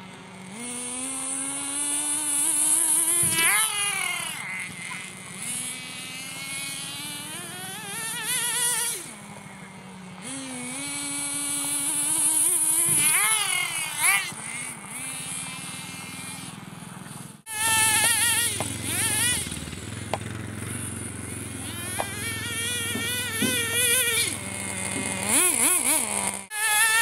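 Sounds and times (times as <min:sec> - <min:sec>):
small engine revving: 0:00.0 - 0:27.0.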